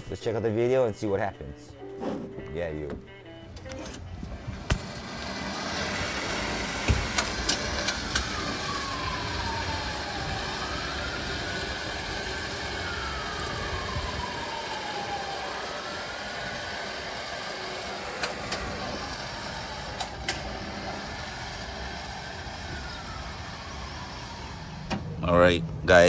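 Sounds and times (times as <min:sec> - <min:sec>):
vehicle engine: 0:03.2 - 0:26.0.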